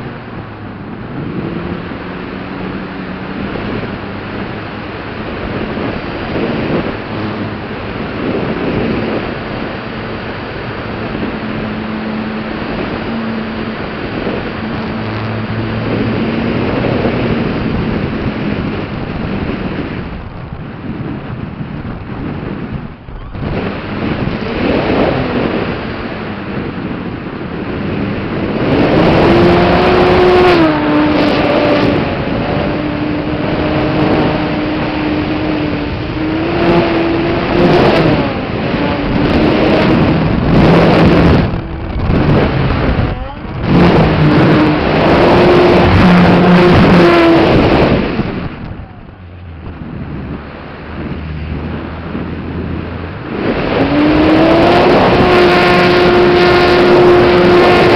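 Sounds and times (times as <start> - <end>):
wind rush: 0.0 - 57.9.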